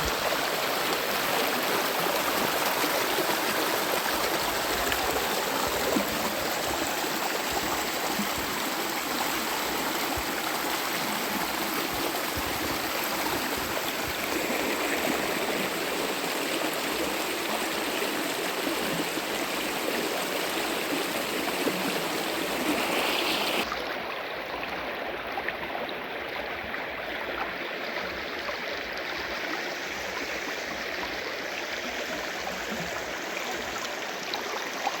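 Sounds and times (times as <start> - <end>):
stream of running water: 0.0 - 35.0.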